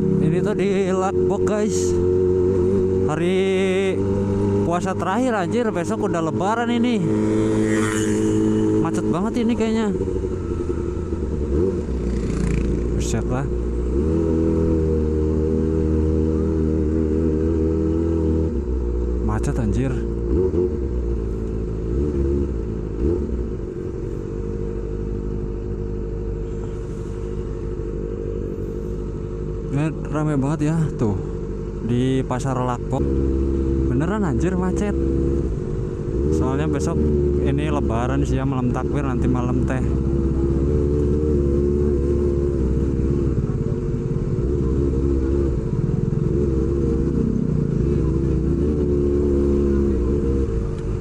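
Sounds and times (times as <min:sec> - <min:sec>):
motorcycle engine running at low revs: 0:00.0 - 0:51.0.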